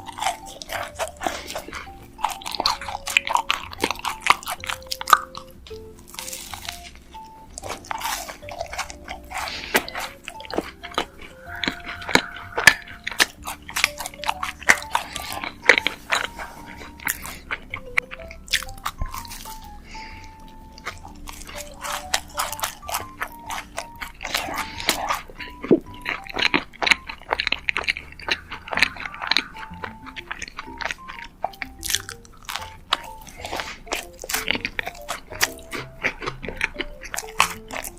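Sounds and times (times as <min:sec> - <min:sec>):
crunchy biting and chewing: 0:00.0 - 0:37.9
soft background music: 0:00.0 - 0:37.9.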